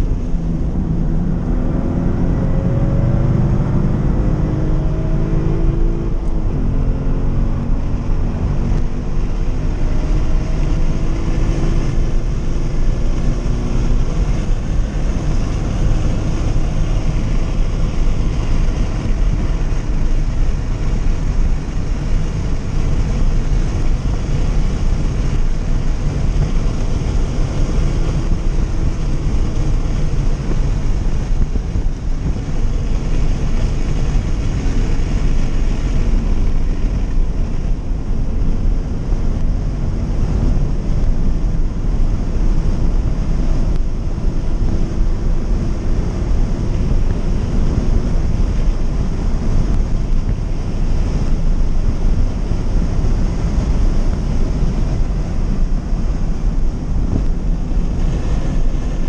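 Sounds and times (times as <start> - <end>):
car engine running: 0.0 - 59.0
wind and road noise rumble: 0.0 - 59.0.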